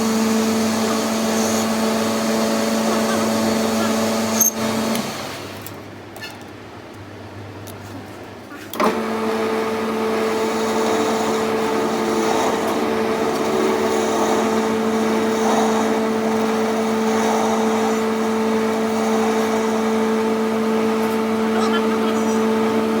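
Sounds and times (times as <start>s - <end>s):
motor-driven machine humming: 0.0s - 5.6s, 8.8s - 23.0s.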